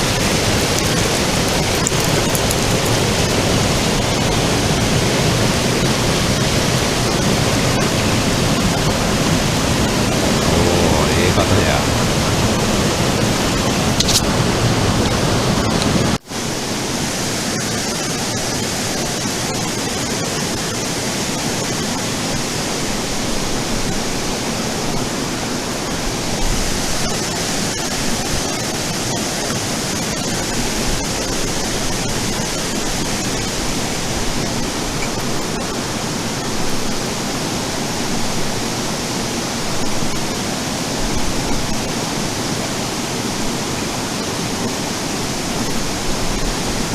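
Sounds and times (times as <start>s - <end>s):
mountain stream rushing: 0.0s - 46.9s.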